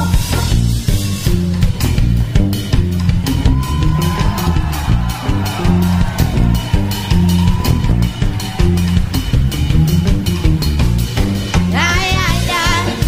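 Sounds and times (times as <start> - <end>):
live ska band instrumental: 0.0 - 13.0.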